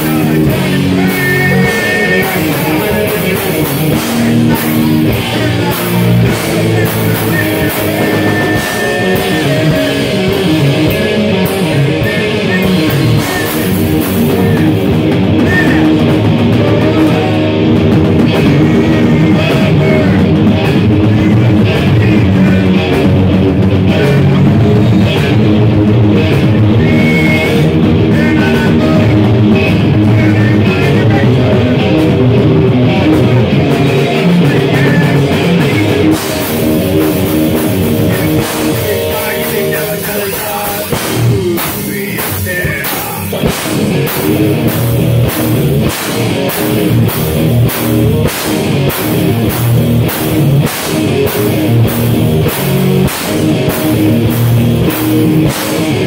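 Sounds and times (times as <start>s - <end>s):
drum kit played hard: 0.0s - 56.0s
loud rock music: 0.0s - 56.0s.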